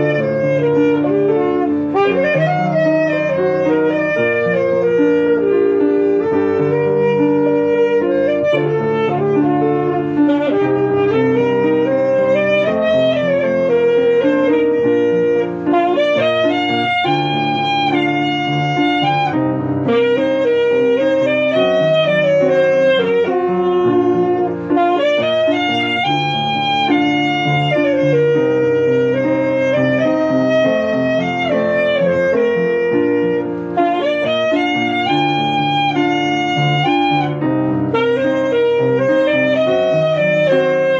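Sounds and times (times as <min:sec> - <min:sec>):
alto saxophone melody: 0:00.0 - 0:40.9
piano accompaniment: 0:00.0 - 0:40.9.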